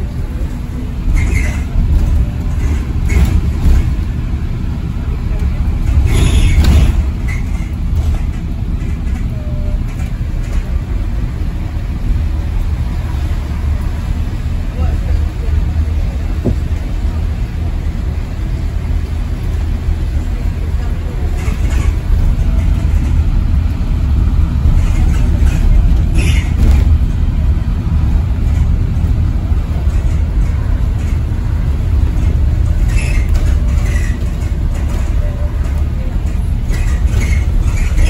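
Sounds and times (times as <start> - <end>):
bus tyres and road rumble: 0.0 - 38.0
bus fittings clattering: 0.4 - 11.6, 15.8 - 20.0, 20.6 - 38.0.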